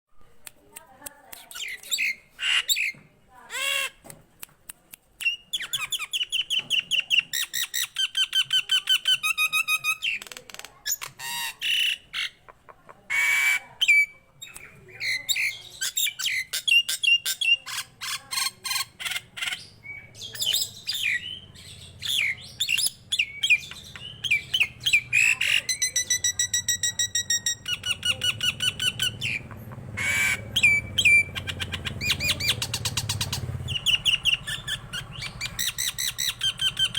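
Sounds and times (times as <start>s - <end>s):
myna bird singing: 1.4s - 4.0s, 5.2s - 36.9s.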